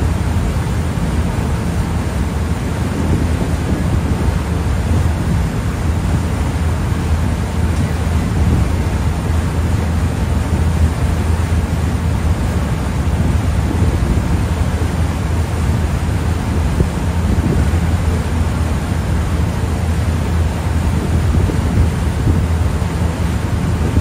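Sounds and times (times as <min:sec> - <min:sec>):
ferry engine droning: 0:00.0 - 0:24.0
rush of wake water: 0:00.0 - 0:24.0
wind on microphone: 0:00.0 - 0:24.0.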